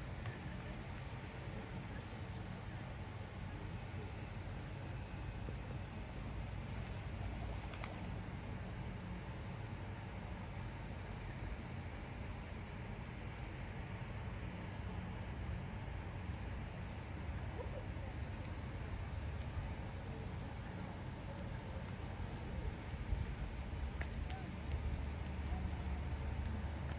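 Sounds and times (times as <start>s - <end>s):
insects droning: 0.0s - 26.9s.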